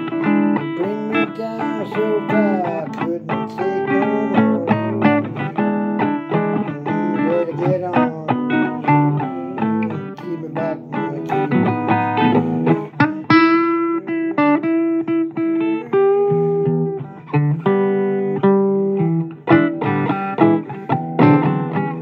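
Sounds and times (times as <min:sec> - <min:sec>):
blues guitar playing: 0:00.0 - 0:22.0.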